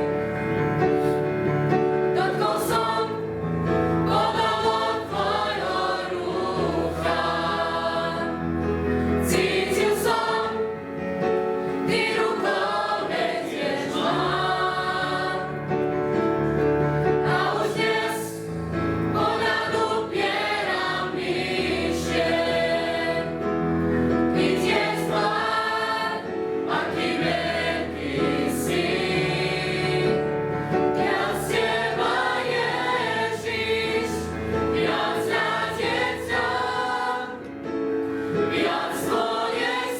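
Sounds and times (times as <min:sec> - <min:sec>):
youth choir singing: 0:00.9 - 0:16.4, 0:17.0 - 0:39.9.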